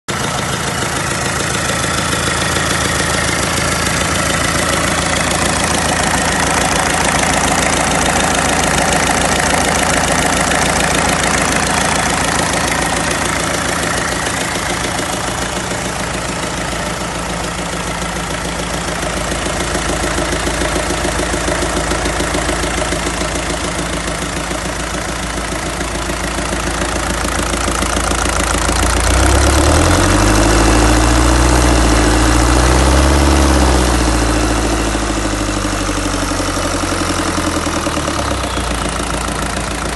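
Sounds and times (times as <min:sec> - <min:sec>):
diesel engine idling: 0:00.1 - 0:39.9.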